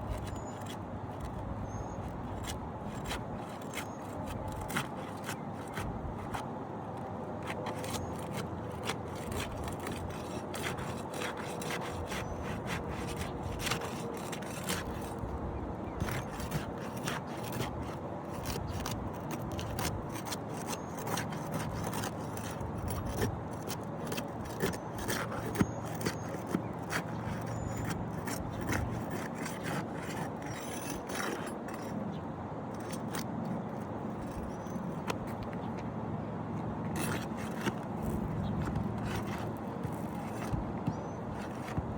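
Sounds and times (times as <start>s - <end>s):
roof shingle scraping and rubbing: 0.0s - 41.9s.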